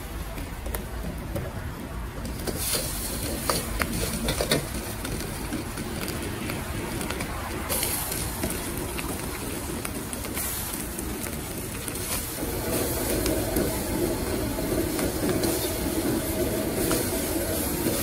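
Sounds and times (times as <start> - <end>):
gas burner roaring: 0.0 - 18.0
food sizzling in wok: 2.4 - 5.9, 6.9 - 18.0.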